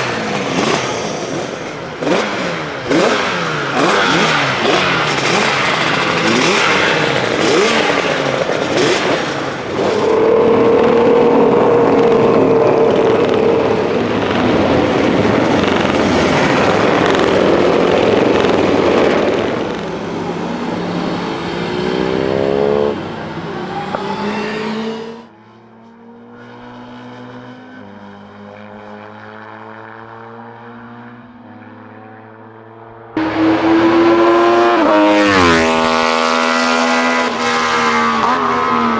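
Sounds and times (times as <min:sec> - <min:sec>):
racing motorcycle engines revving: 0:00.0 - 0:38.9.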